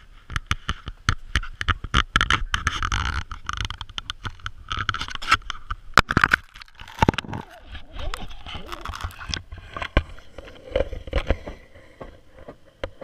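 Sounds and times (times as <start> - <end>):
camera scraping on ice: 1.4 - 12.6.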